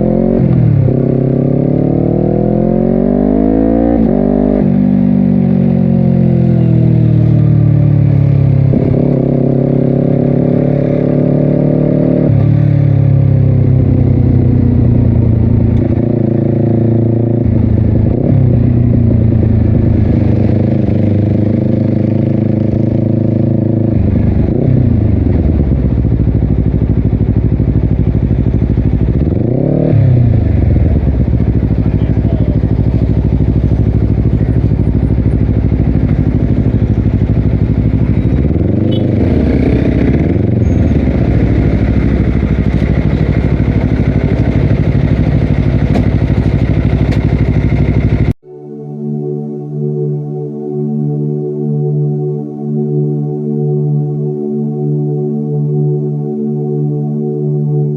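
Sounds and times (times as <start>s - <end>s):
motorcycle engine revving: 0.0s - 48.4s.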